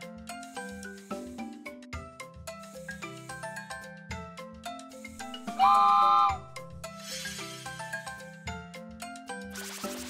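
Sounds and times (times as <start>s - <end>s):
cheerful background music: 0.0s - 10.0s.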